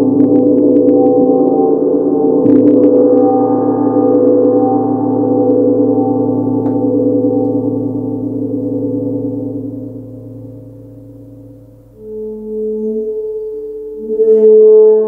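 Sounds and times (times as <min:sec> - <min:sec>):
gong struck with mallet: 0:00.0 - 0:14.1.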